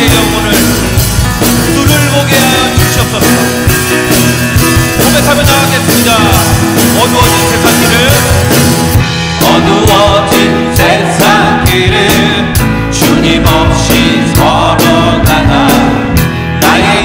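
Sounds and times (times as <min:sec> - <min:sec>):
drums: 0:00.0 - 0:17.0
guitar: 0:00.0 - 0:17.0
keyboard: 0:00.0 - 0:17.0
rock worship band: 0:00.0 - 0:17.0.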